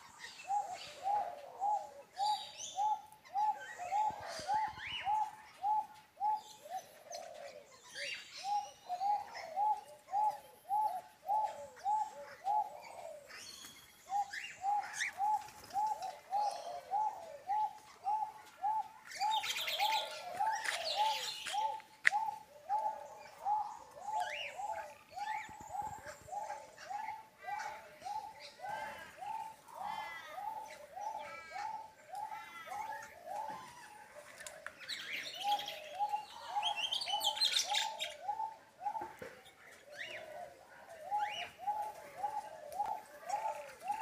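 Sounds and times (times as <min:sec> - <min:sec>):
birds chirping high: 0:00.0 - 0:44.0.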